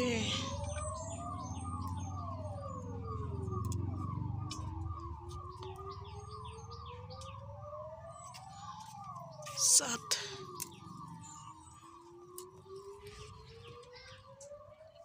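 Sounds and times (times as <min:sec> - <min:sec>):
birds chirping: 0:00.0 - 0:14.6
siren wailing: 0:00.0 - 0:15.0.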